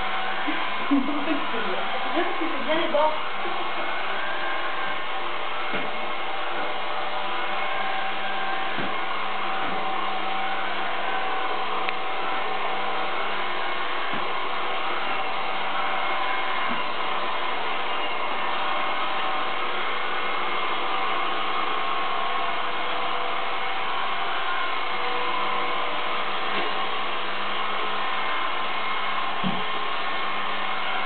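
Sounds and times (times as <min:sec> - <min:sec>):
robot vacuum cleaner whirring: 0:00.0 - 0:31.0.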